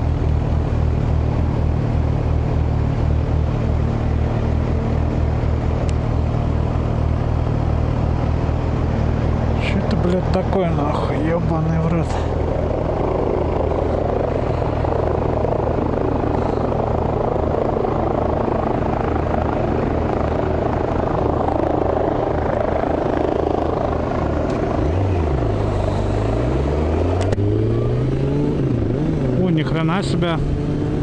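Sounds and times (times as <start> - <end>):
helicopter-like drone and chopping: 0.0 - 31.0
motorcycle engine: 0.0 - 31.0.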